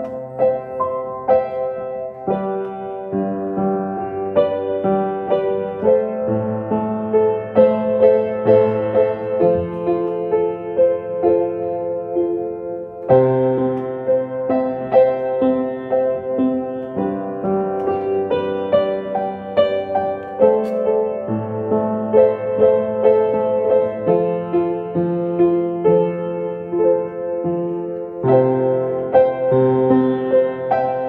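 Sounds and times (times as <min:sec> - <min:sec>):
slow gentle piano piece: 0:00.0 - 0:31.0.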